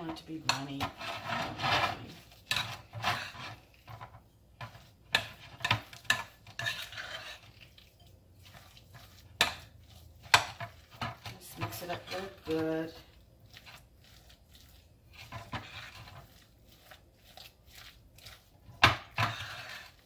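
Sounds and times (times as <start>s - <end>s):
spoon stirring and scraping bowl: 0.0s - 20.0s.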